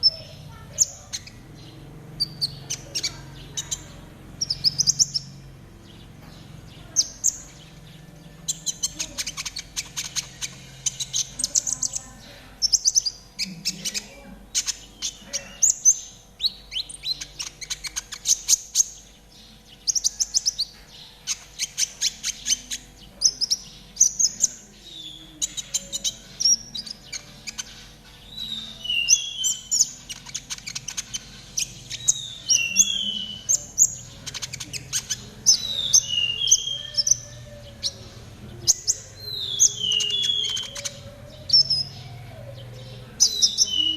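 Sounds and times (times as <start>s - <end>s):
songbird trilling and chirping: 0.0s - 43.9s.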